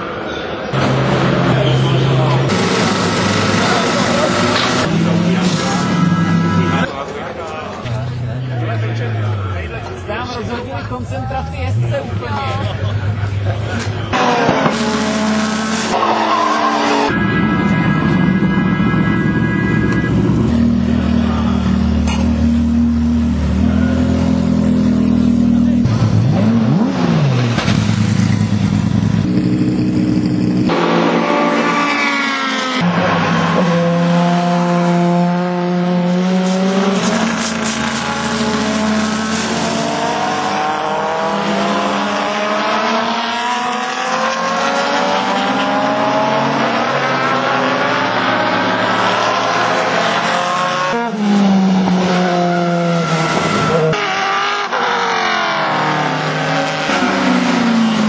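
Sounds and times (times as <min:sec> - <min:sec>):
racing cars accelerating: 0:00.0 - 0:58.0
race car engine revving: 0:00.7 - 0:58.0.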